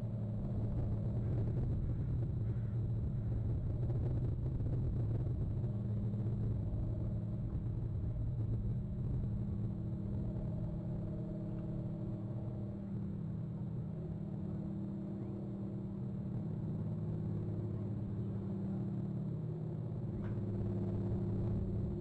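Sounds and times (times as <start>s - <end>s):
distant engine droning: 0.0s - 22.0s.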